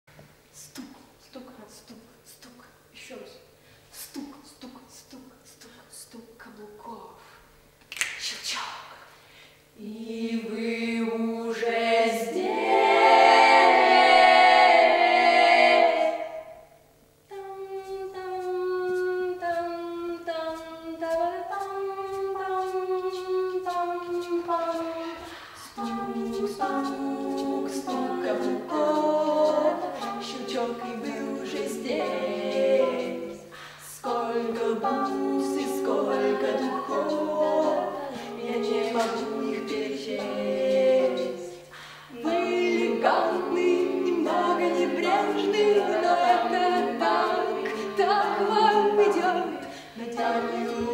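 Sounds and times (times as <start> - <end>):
vocal group singing a cappella: 8.4 - 50.9.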